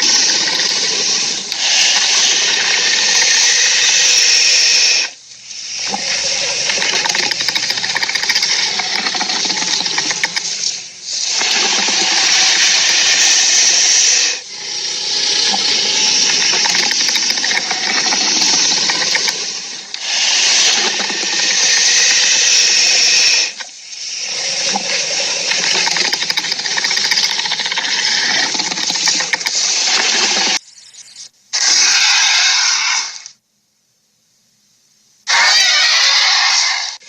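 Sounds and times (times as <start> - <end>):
harsh rasping creature hiss: 0.0 - 30.6, 31.5 - 33.4, 35.3 - 37.0.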